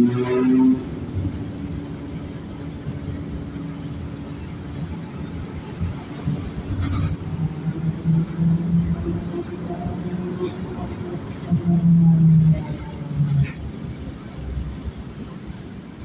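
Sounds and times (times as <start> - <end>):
bus road rumble: 0.0 - 16.0.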